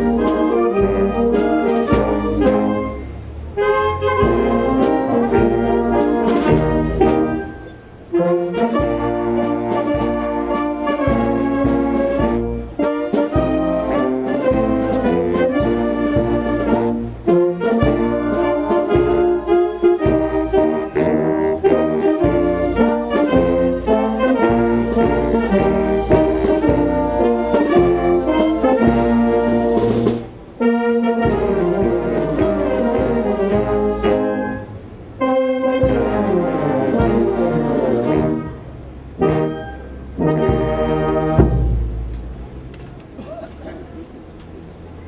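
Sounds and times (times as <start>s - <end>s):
brass band playing: 0.0s - 43.2s.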